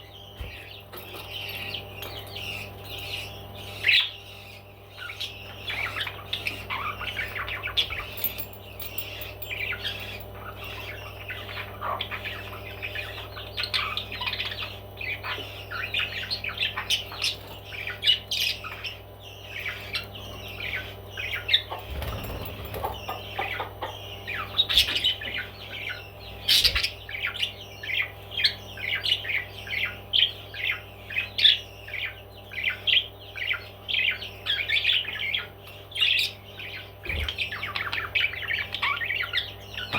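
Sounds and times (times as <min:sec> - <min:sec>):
parrots chirping and squawking: 0:00.0 - 0:39.9
steady low hum: 0:00.0 - 0:39.9.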